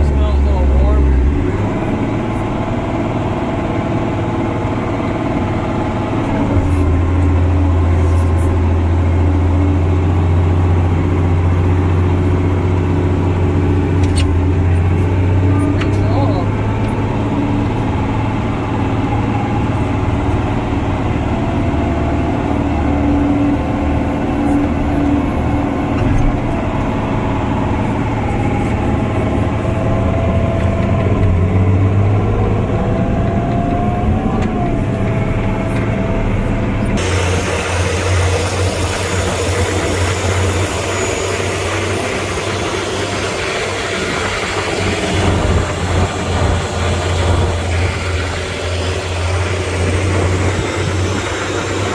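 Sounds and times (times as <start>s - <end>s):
truck diesel engine running: 0.0s - 51.9s.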